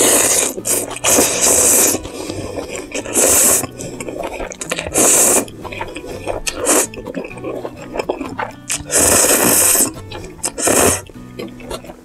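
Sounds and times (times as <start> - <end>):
slurping noodles: 0.0 - 12.0.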